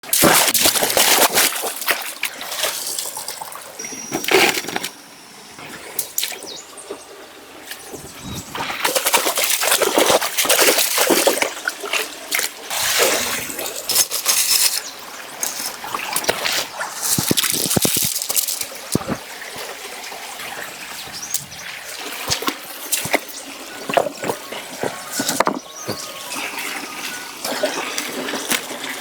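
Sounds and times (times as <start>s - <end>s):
stream water splashing: 0.0s - 29.0s.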